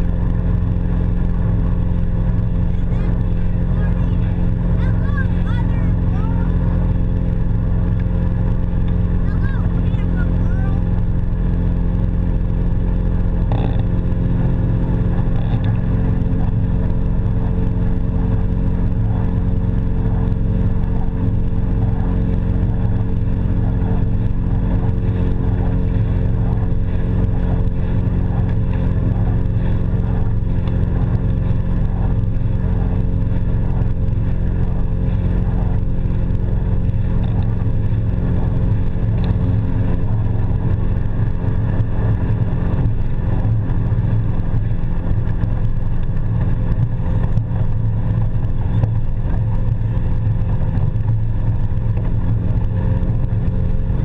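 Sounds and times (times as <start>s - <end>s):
boat engine hum: 0.0s - 54.0s
water against hull rumble: 0.0s - 54.0s.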